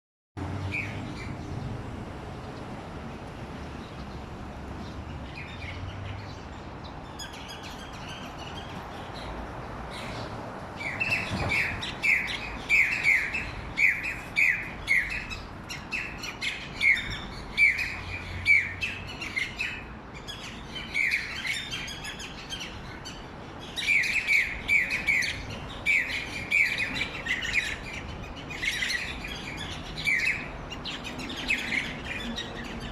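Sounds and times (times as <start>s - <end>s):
birds chirping: 0.5s - 32.9s.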